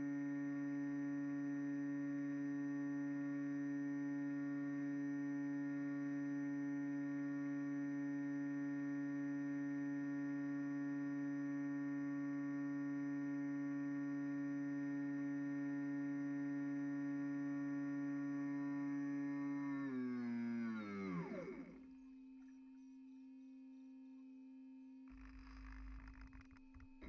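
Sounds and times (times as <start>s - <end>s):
electric motor whine: 0.0s - 22.2s, 25.1s - 27.0s.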